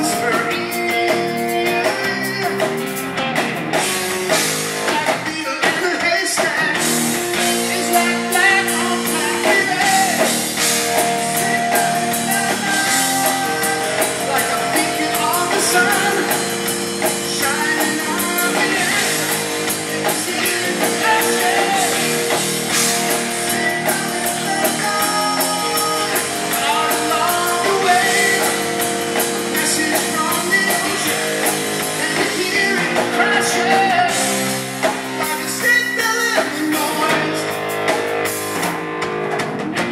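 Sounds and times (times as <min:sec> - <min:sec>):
man singing lead vocal: 0:00.0 - 0:03.1, 0:04.8 - 0:37.6
rock band playing: 0:00.0 - 0:39.9.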